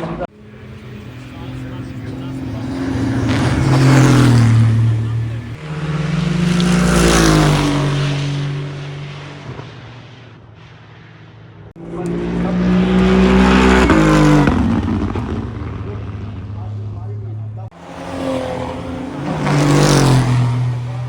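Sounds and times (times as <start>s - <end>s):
race cars passing: 0.0s - 21.0s.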